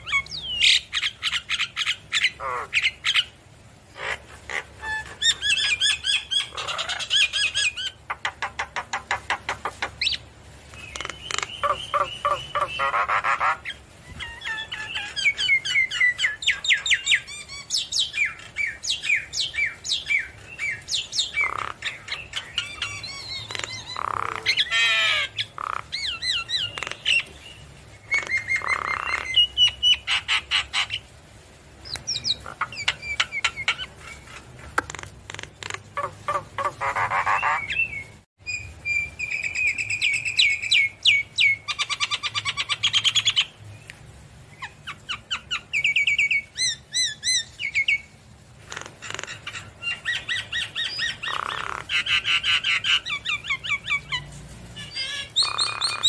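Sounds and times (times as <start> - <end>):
bird singing varied song: 0.0 - 3.4, 4.0 - 31.1, 31.8 - 48.2, 49.0 - 56.0.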